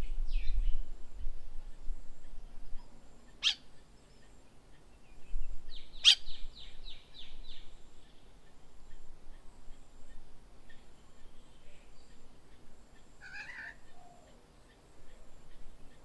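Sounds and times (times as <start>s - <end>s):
songbird calling: 0.0s - 16.0s.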